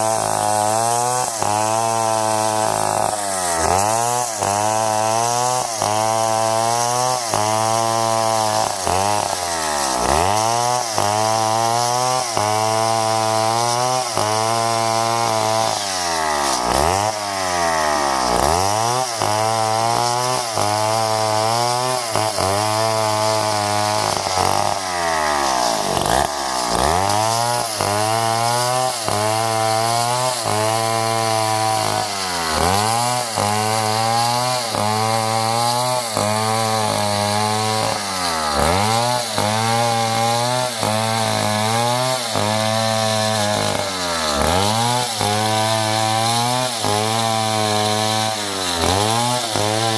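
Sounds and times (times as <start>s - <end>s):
chainsaw sawing wood: 0.0s - 49.9s.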